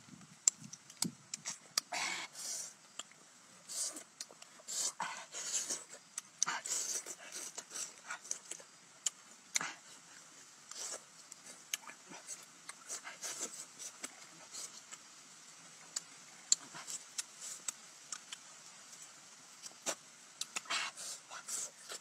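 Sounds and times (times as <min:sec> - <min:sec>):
open-mouthed chewing and smacking: 0:00.4 - 0:22.0.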